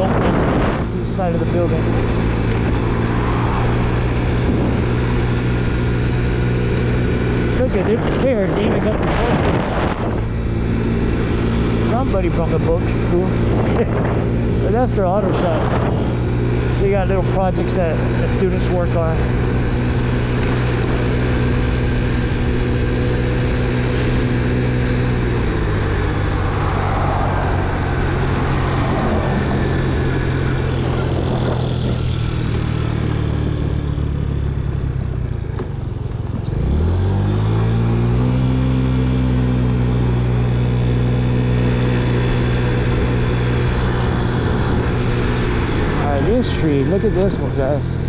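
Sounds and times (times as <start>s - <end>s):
scooter engine revving: 0.0s - 48.0s.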